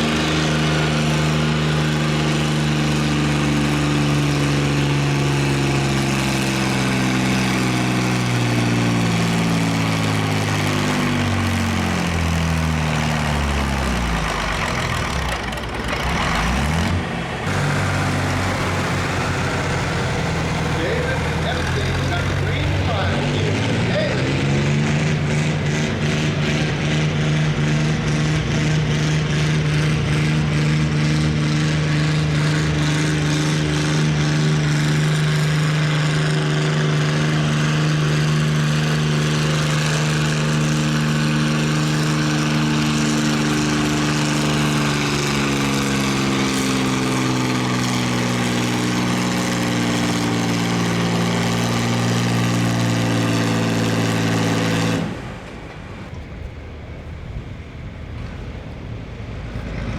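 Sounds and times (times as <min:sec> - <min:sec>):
tractor engine running hard: 0:00.0 - 0:59.9.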